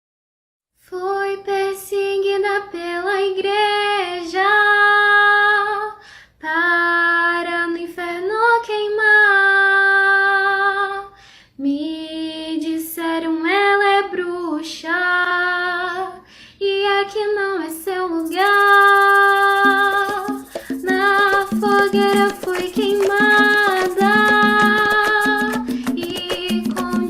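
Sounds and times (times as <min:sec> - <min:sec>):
woman singing: 0:00.8 - 0:27.0.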